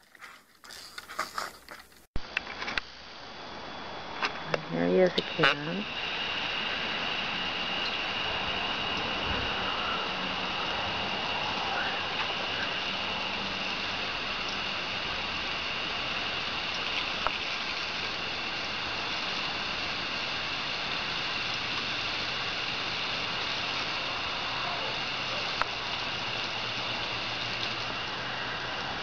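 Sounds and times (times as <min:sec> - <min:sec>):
hose water splashing on pavement: 0:00.0 - 0:02.1, 0:05.5 - 0:29.0.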